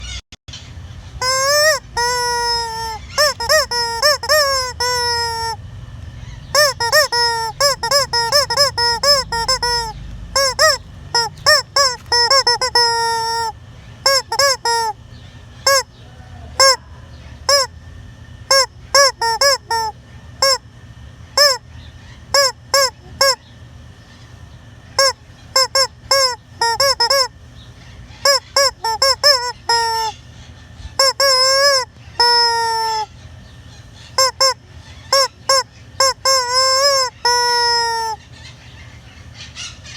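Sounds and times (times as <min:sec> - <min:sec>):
hen squawking: 0:01.0 - 0:15.0, 0:15.6 - 0:17.7, 0:18.5 - 0:20.6, 0:21.4 - 0:23.4, 0:25.0 - 0:39.9.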